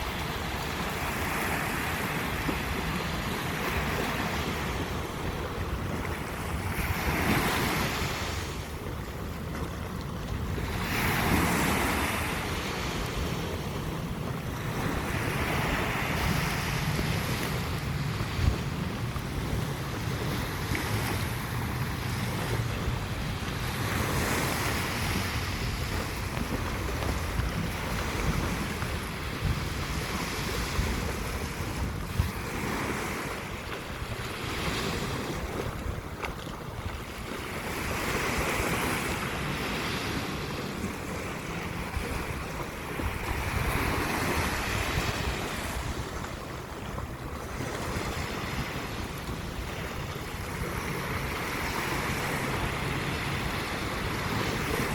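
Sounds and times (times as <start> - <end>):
sea waves breaking on beach: 0.0 - 54.9
wind buffeting microphone: 0.0 - 54.9.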